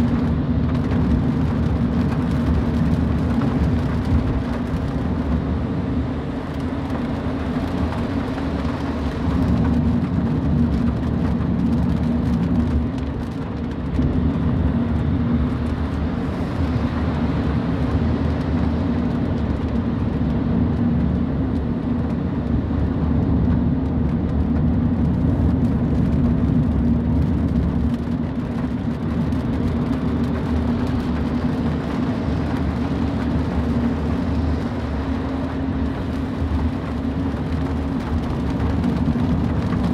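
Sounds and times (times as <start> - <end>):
car engine and tyre drone: 0.0 - 39.9
rain ticking on car: 0.0 - 39.9.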